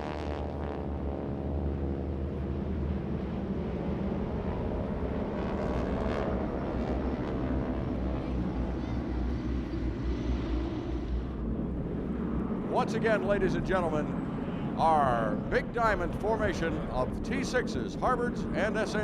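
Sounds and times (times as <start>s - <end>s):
propeller planes roaring past: 0.0s - 19.0s.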